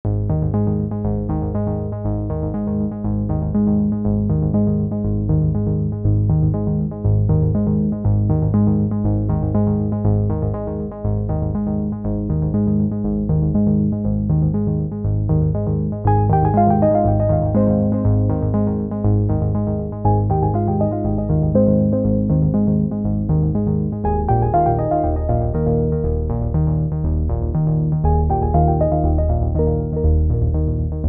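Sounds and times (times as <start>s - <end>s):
music with strong bass line: 0.1s - 31.0s.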